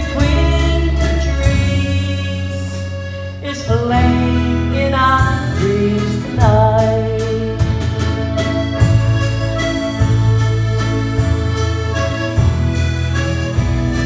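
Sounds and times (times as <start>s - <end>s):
bass: 0.0s - 14.0s
button accordion melody: 0.0s - 14.0s
drums in a steady beat: 0.0s - 14.0s.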